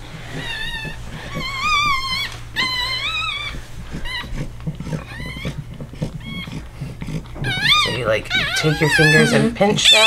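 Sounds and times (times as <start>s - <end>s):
puppy crying: 0.2s - 10.0s.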